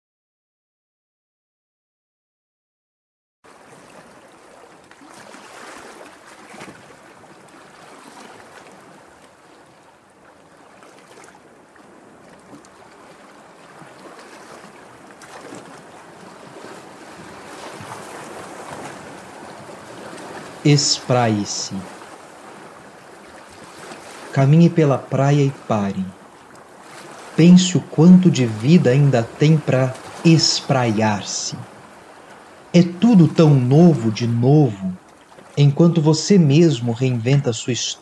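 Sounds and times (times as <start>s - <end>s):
sea surf washing on shore: 3.5s - 38.0s.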